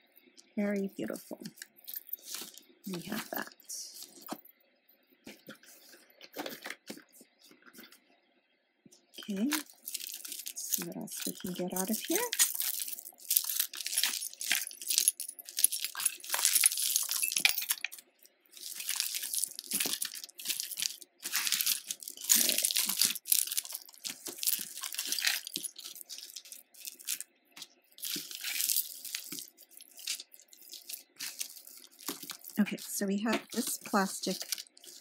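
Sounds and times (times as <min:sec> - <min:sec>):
jewelry clinking and rattling: 0:00.1 - 0:04.6, 0:09.0 - 0:35.0.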